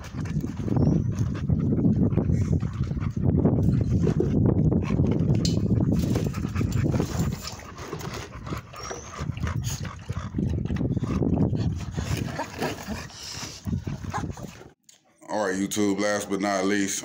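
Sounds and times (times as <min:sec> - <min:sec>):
dogs vocalizing: 0:00.0 - 0:14.8.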